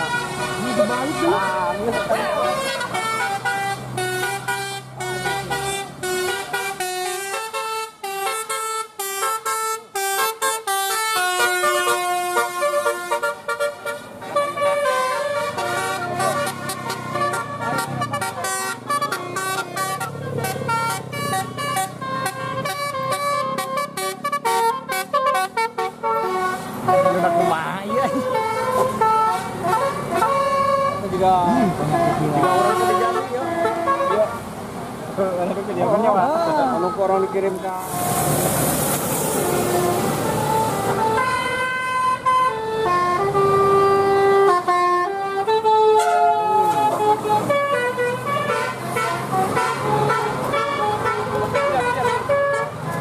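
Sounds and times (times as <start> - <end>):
bus horns playing melodies: 0.0 - 34.7, 36.0 - 53.0
vehicle engine rumbling: 0.0 - 53.0.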